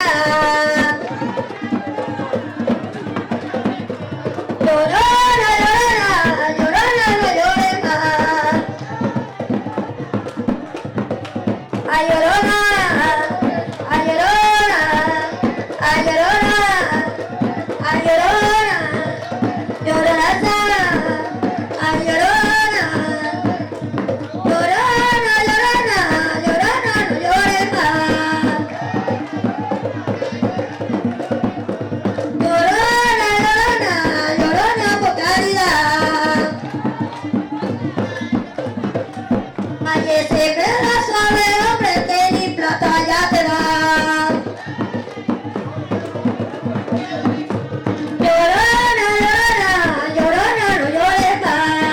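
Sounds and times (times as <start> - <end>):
hand drums: 0.0 - 51.9
woman singing: 0.0 - 51.9.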